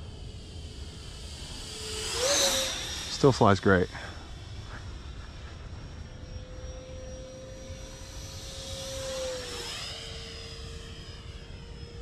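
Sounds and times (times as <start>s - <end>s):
model jet motor whine: 0.0s - 12.0s.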